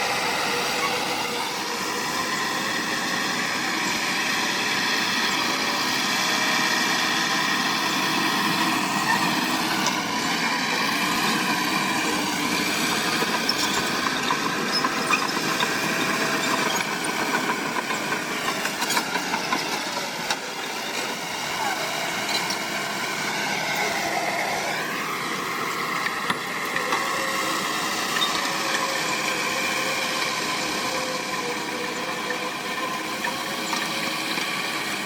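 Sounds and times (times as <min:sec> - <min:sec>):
heavy machinery diesel engine running: 0:00.0 - 0:35.0.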